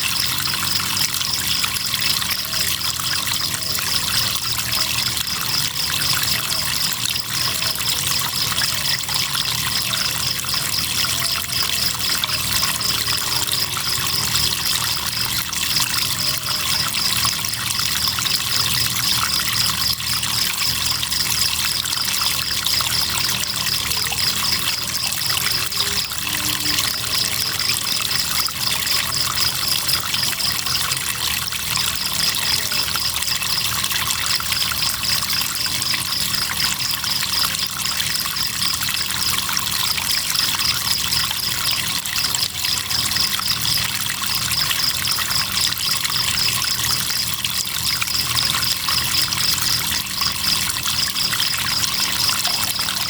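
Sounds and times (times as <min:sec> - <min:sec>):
crickets chirping: 0:00.0 - 0:53.0
river water running: 0:00.0 - 0:53.0.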